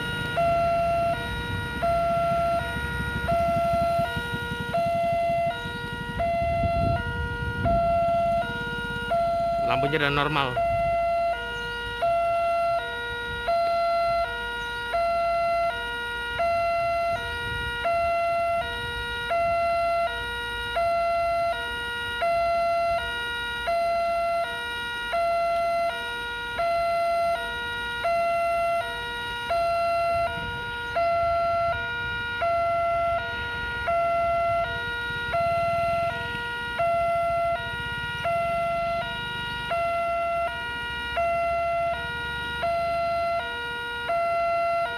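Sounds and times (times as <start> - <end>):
two-tone crossing alarm wail: 0.0 - 44.9.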